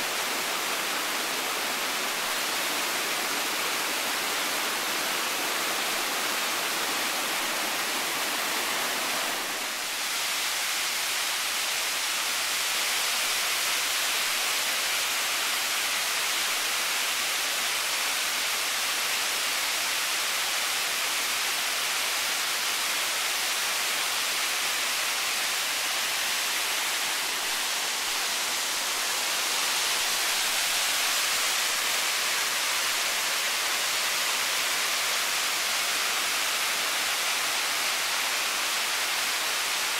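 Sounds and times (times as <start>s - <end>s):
rushing waterfall water: 0.0s - 39.9s.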